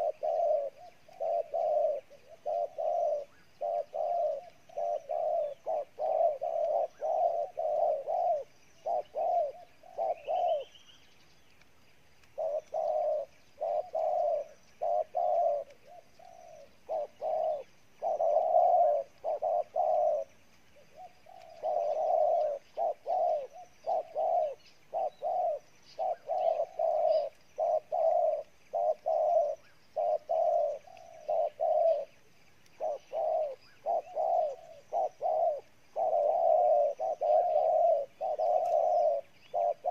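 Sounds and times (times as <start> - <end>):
dove cooing: 0.0 - 11.0, 12.2 - 39.9.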